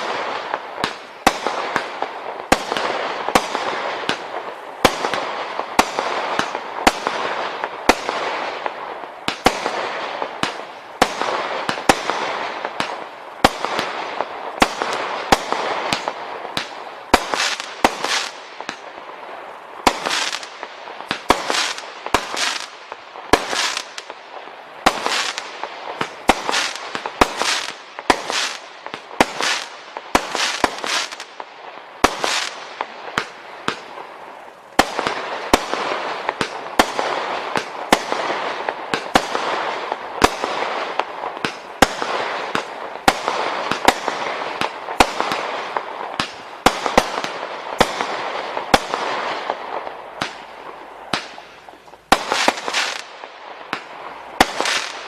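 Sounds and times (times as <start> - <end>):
firework crackle: 0.0 - 55.0
fireworks banging: 0.0 - 55.0.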